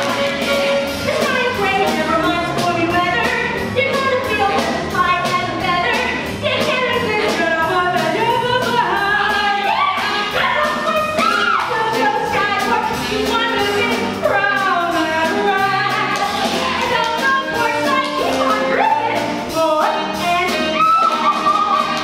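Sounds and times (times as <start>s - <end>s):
live band playing: 0.0s - 22.0s
woman singing swing jazz: 0.0s - 22.0s.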